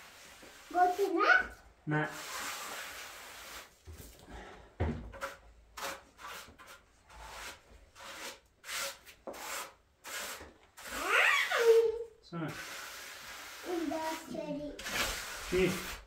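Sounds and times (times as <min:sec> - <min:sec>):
tool scraping cement on floor: 0:00.0 - 0:04.1, 0:04.9 - 0:16.0.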